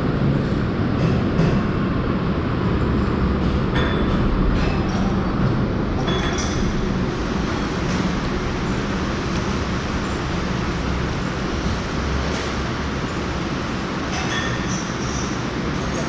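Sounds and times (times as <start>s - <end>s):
vehicle road and wind rumble: 0.0s - 16.0s.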